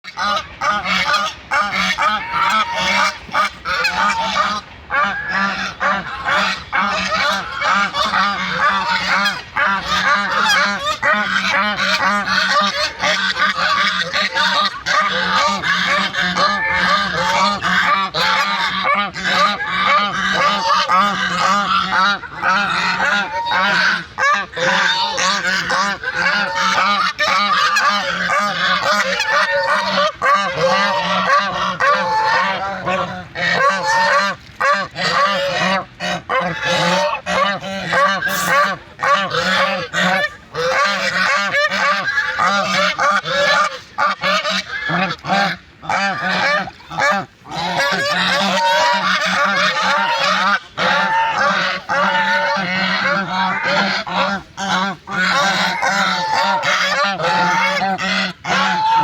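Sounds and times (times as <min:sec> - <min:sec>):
waterfowl flock calling: 0:00.0 - 0:59.0.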